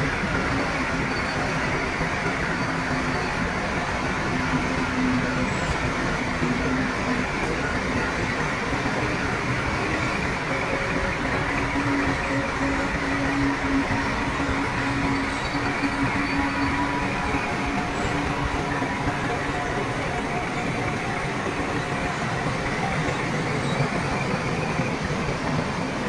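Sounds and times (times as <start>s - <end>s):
diesel earthmoving machinery: 0.0s - 26.0s.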